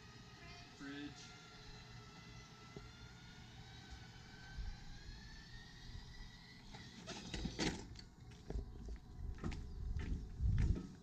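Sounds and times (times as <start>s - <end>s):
awning motor whine: 0.0s - 9.5s.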